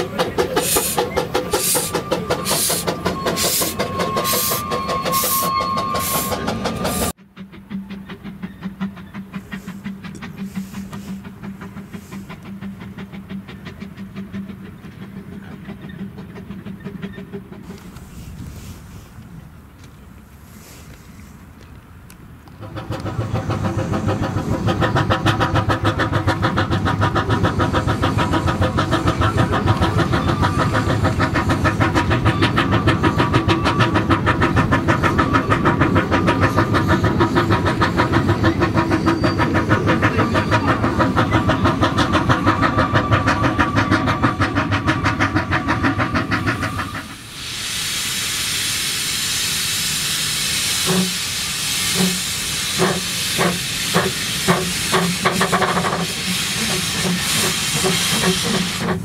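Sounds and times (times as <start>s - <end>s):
steam hissing: 0.0s - 19.5s, 22.5s - 59.0s
steam locomotive exhaust beats: 0.0s - 59.0s.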